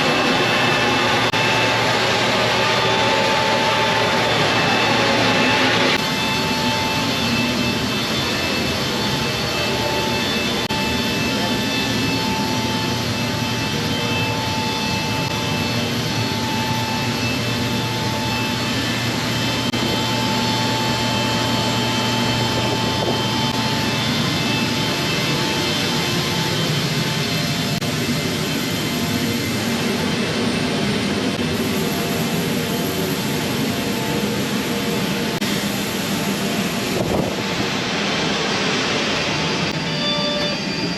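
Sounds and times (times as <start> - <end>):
jet engines rushing and whining: 0.0 - 40.9.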